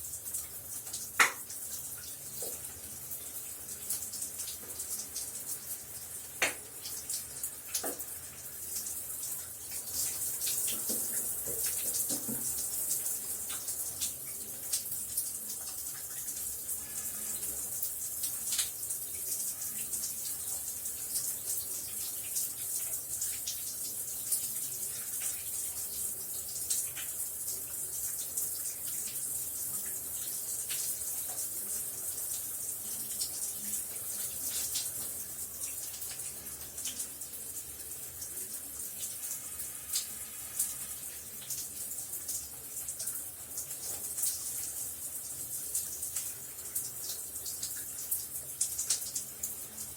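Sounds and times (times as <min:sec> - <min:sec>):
shower water running: 0:00.0 - 0:49.9.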